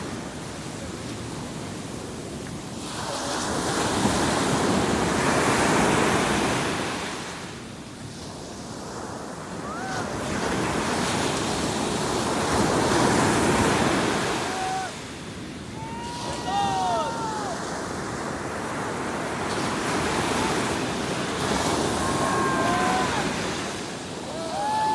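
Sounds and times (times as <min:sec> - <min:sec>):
surf washing up a beach: 0:00.0 - 0:24.9.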